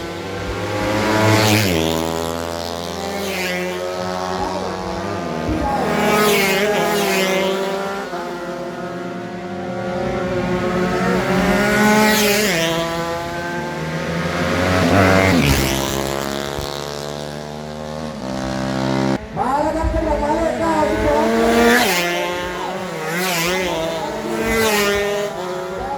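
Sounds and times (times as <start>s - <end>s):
motorcycles passing close by: 0.0s - 25.9s
racing motorcycle engines revving: 0.0s - 25.9s.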